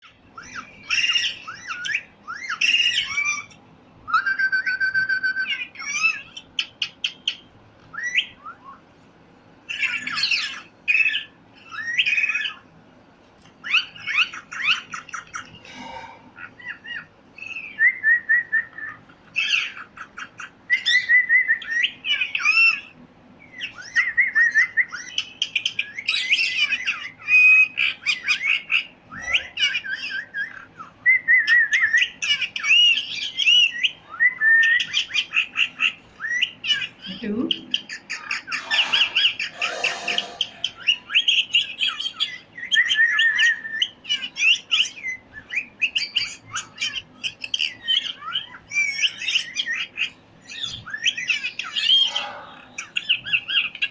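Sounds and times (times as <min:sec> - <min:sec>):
parrot chirping and squawking: 0:00.0 - 0:03.6, 0:05.4 - 0:08.4, 0:09.7 - 0:12.7, 0:13.6 - 0:17.8, 0:18.7 - 0:53.9.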